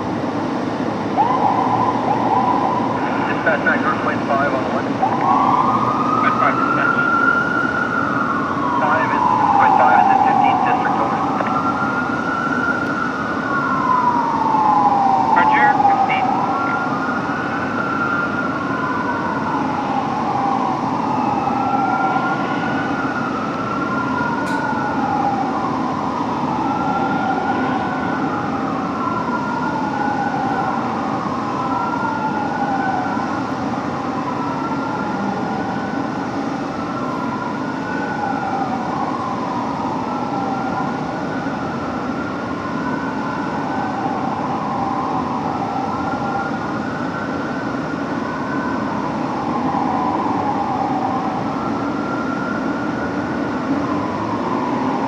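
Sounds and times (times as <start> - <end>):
fire engine siren wailing: 0.0 - 55.0.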